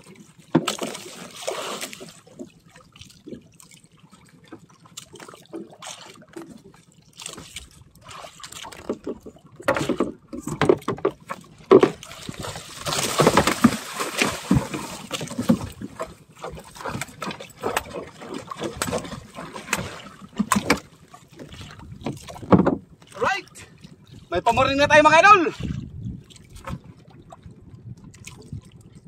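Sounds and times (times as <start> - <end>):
water splashing: 0.0 - 29.0.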